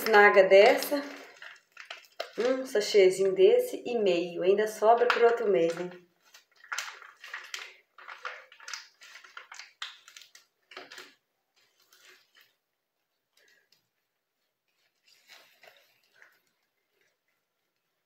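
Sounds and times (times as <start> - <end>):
comb squishing through wet hair: 0.0 - 3.3, 4.9 - 12.6, 13.3 - 18.0.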